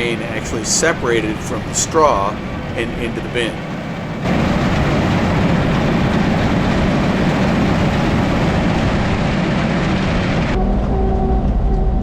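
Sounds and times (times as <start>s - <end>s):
dense mechanical rattle: 0.0s - 10.6s
harvester engine hum: 0.0s - 11.2s.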